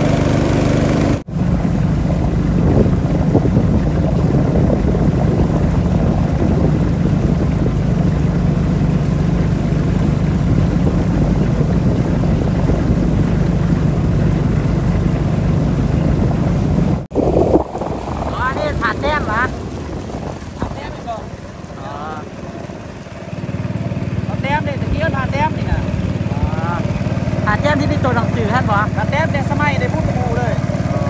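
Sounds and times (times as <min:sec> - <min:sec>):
boat engine running: 0:00.0 - 0:31.0
wind buffeting microphone: 0:00.0 - 0:31.0.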